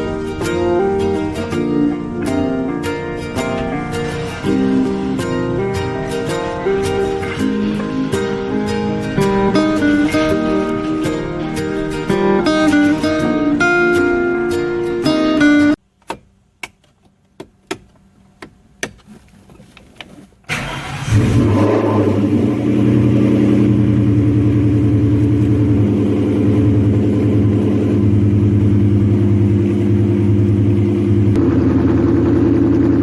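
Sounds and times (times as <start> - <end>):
car engine starting and idling: 0.0 - 14.9, 20.4 - 33.0.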